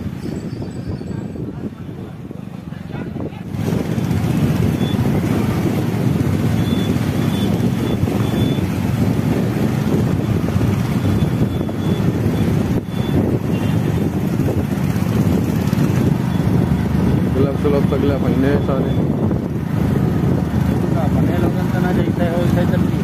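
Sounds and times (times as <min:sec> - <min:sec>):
motorcycle running along road: 0:00.0 - 0:23.0
wind buffeting microphone: 0:00.0 - 0:23.0.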